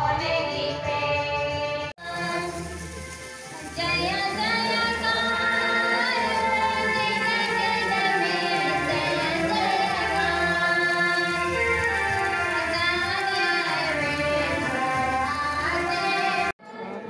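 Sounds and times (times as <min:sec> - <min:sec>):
music with high singing voice: 0:00.0 - 0:17.0.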